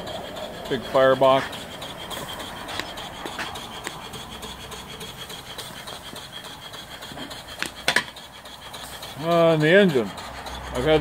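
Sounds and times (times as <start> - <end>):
sharp clicks: 0.0 - 10.8
steam hissing from boiler: 0.0 - 11.0.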